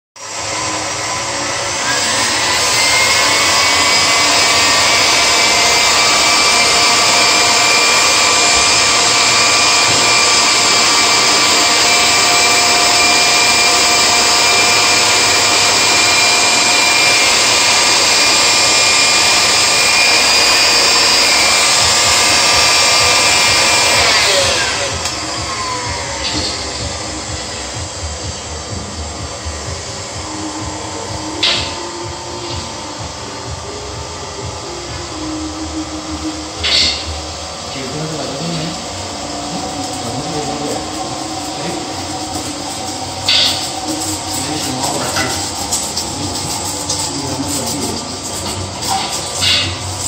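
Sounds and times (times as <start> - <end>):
electric mixer motor whining: 0.2 - 50.0.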